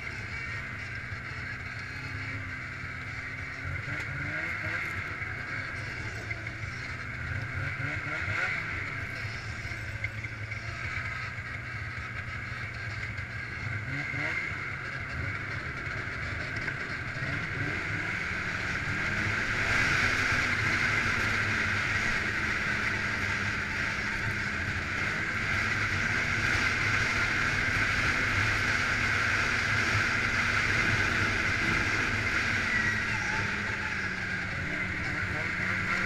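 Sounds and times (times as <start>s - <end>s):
snowmobile engine and track: 0.0s - 36.0s.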